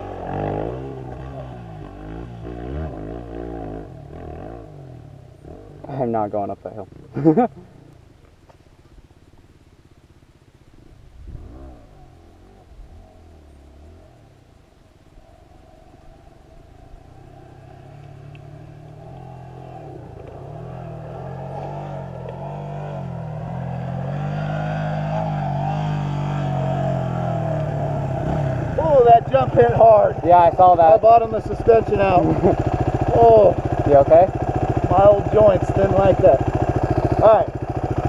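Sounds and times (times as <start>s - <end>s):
off-road vehicle engine revving: 0.0s - 8.2s, 10.7s - 38.0s.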